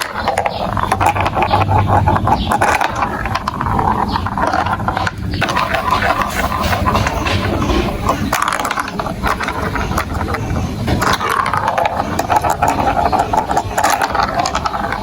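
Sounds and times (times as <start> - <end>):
marbles rolling on plastic track: 0.0 - 15.0.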